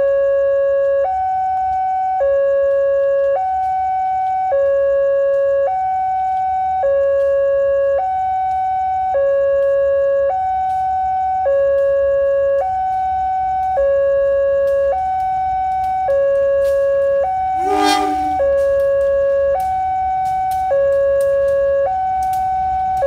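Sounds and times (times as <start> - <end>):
two-tone electronic alarm: 0.0 - 22.9.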